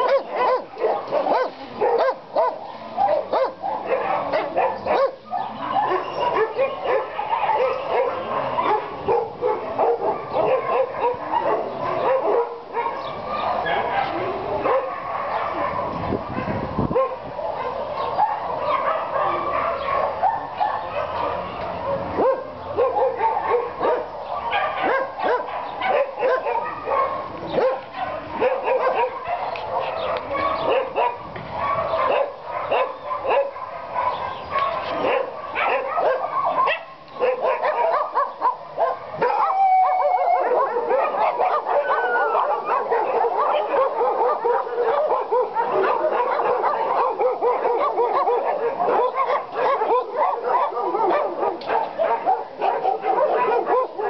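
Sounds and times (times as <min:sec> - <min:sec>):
many dogs barking: 0:00.0 - 0:54.0.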